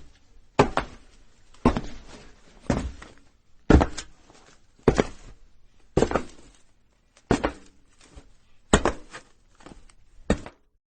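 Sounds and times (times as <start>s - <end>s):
footsteps on a roof: 0.0s - 10.8s.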